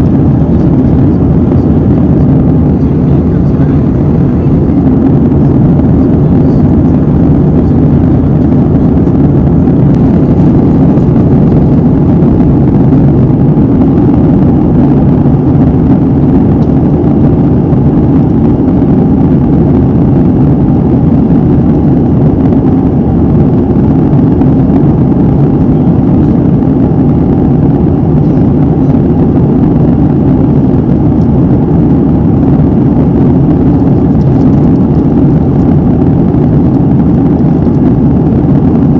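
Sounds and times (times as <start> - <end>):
airliner engine and airflow rumble: 0.0 - 38.9.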